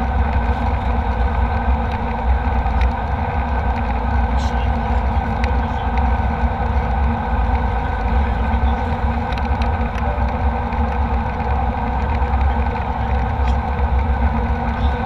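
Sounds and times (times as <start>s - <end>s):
jet engine cabin rumble: 0.0s - 15.0s
steady hums: 0.0s - 15.0s.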